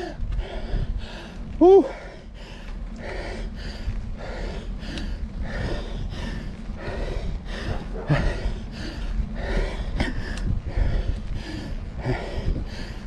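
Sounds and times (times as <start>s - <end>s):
person panting hard: 0.0s - 13.0s
steady low rumble: 0.0s - 13.0s.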